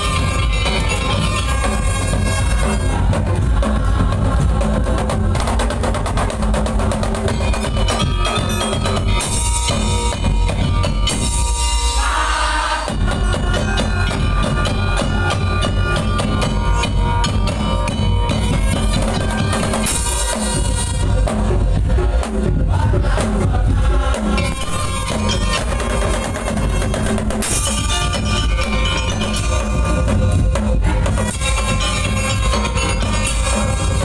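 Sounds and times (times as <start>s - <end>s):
fast driving drum rhythm: 0.0s - 34.0s.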